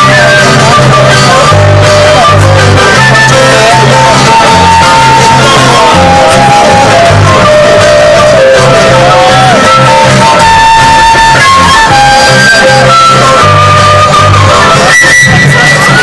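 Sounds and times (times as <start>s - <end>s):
acoustic guitar strumming: 0.0s - 16.0s
mandolin melody: 0.0s - 16.0s.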